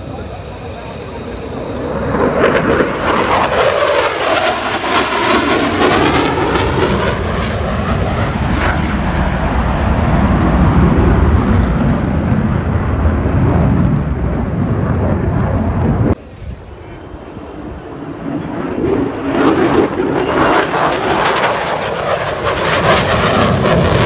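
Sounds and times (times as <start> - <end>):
jet fighters roaring past: 0.0 - 24.0.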